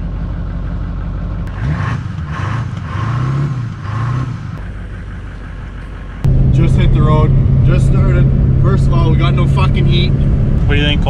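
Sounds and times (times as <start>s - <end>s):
diesel pickup truck driving: 0.0s - 11.0s.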